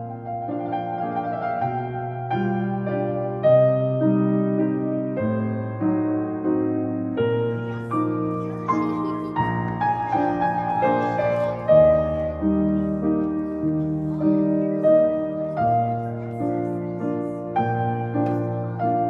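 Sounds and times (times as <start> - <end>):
slow gentle keyboard melody: 0.0 - 19.0.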